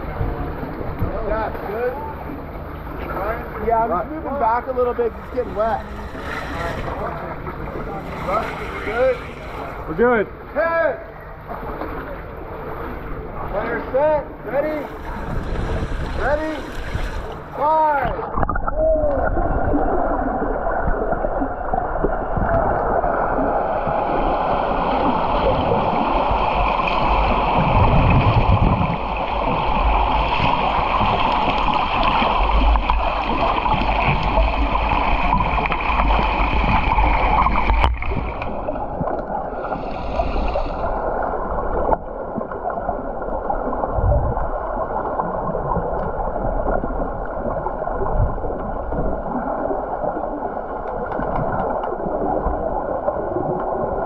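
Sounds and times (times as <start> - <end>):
underwater gurgling and bubbles: 0.0 - 54.0.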